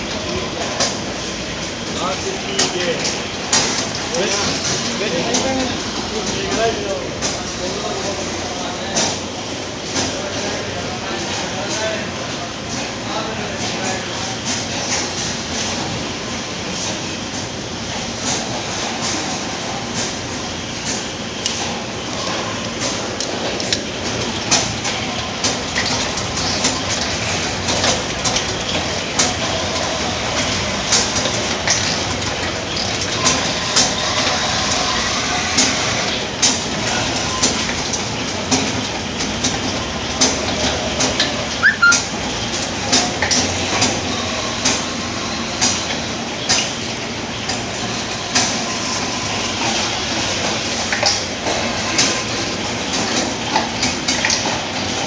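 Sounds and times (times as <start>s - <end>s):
bottle filling machine rattling: 0.0s - 55.0s.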